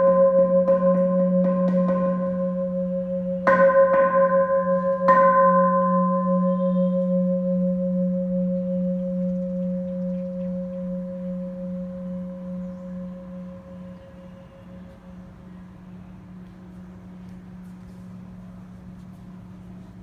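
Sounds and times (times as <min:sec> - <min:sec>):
temple bell ringing: 0:00.0 - 0:20.0.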